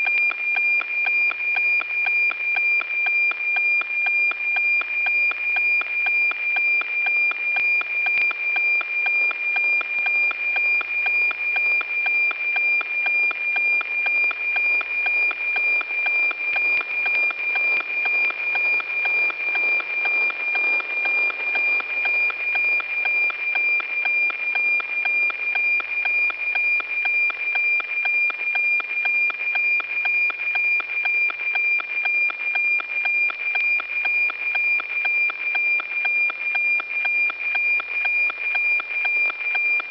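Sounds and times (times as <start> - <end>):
satellite radio signal tone ticking: 0.0 - 39.9.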